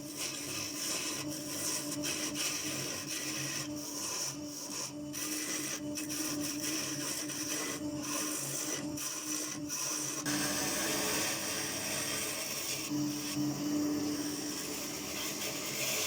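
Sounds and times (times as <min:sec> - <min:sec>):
lathe motor hum: 0:00.0 - 0:16.0
turning tool scraping wood: 0:00.0 - 0:16.0.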